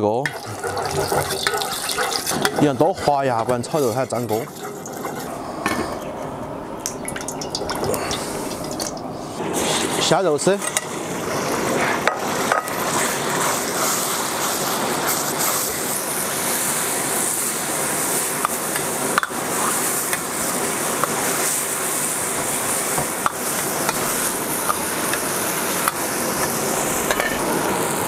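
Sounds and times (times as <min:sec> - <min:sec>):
meat sizzling in hot oil: 0:00.0 - 0:05.4, 0:06.9 - 0:28.0.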